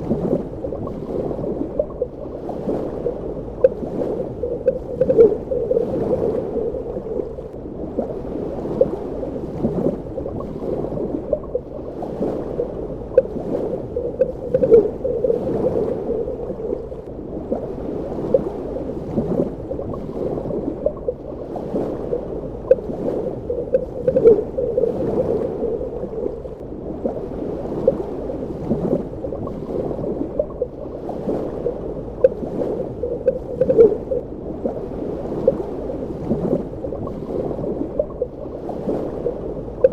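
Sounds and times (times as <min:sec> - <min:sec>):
muffled underwater rush: 0:00.0 - 0:39.9
water bubbling and gurgling: 0:00.0 - 0:39.9.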